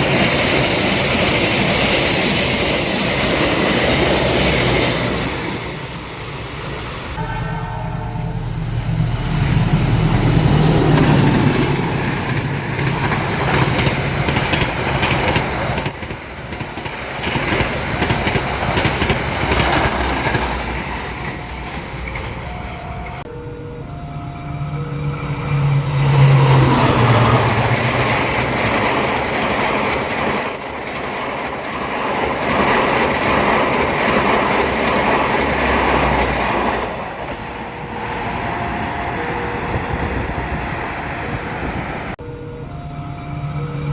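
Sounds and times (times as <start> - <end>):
train rumbling and rattling past: 0.0 - 43.9.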